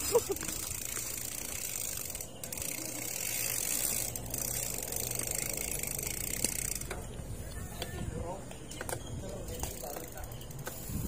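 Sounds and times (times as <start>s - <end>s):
bicycle freewheel ticking: 0.0s - 7.2s, 9.3s - 11.0s
bicycle rolling noise: 0.0s - 11.0s.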